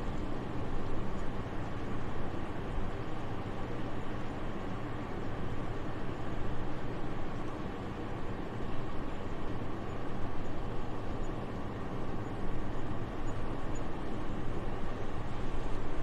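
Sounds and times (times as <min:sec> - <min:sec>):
wind with low rumble: 0:00.0 - 0:16.0.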